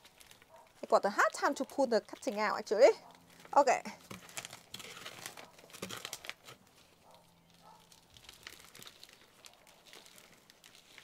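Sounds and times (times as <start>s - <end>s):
plastic plant pot crinkling: 0.0s - 11.0s.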